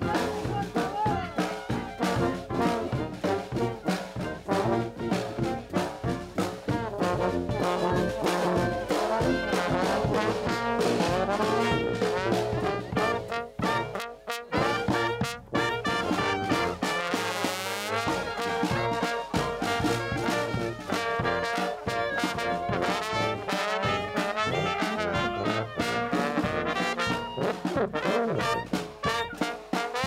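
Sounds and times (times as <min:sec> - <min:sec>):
bass drum beat: 0:00.0 - 0:30.0
marching brass band playing: 0:00.0 - 0:30.0.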